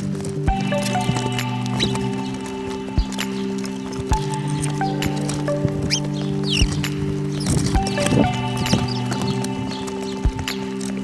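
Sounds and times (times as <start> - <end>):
held musical tones: 0.0 - 11.0
small birds chirping: 0.0 - 11.0.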